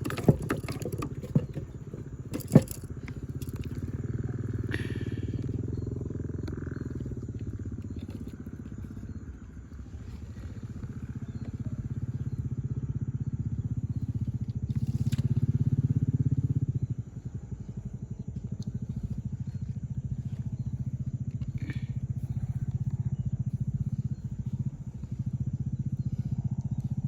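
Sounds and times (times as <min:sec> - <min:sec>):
small engine pulsing: 0:00.0 - 0:27.0.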